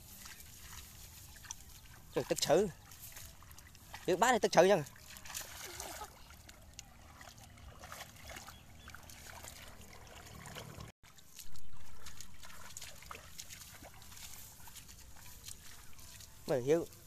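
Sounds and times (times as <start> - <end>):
shallow water splashing and trickling: 0.0 - 17.0.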